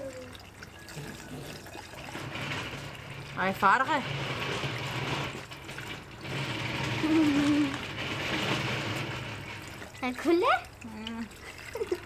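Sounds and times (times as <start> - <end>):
liquid pouring into reservoir: 0.0 - 12.0.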